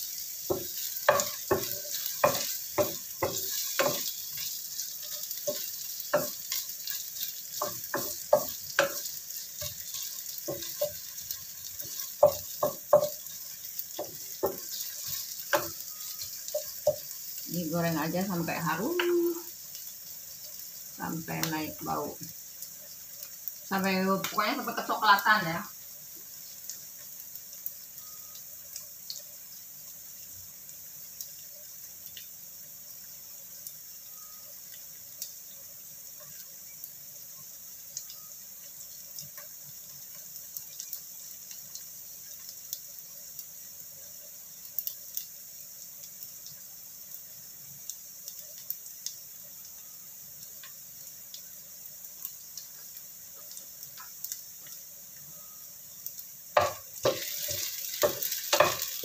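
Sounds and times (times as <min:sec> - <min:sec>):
oil popping and crackling: 0:00.0 - 0:27.8, 0:34.6 - 0:49.7, 0:50.4 - 0:55.3, 0:56.0 - 0:59.0
food sizzling in oil: 0:00.0 - 0:59.0.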